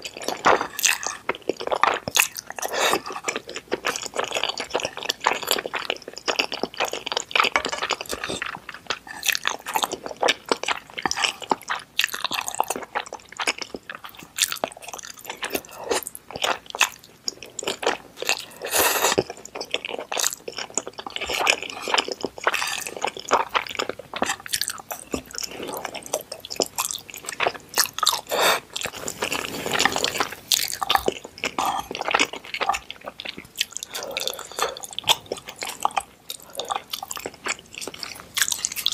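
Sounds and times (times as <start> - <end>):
wet chewing noises: 0.0 - 38.9.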